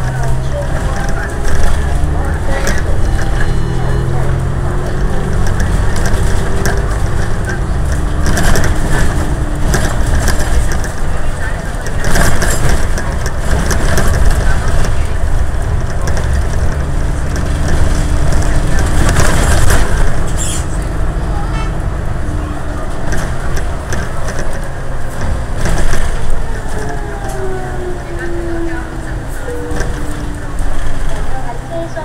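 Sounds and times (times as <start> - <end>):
bus body rattling: 0.0 - 32.0
bus engine rumble: 0.0 - 32.0
road noise: 0.0 - 32.0.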